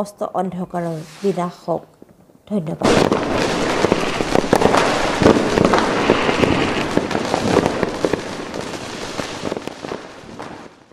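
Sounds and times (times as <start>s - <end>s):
firecrackers banging and crackling: 0.8s - 10.9s.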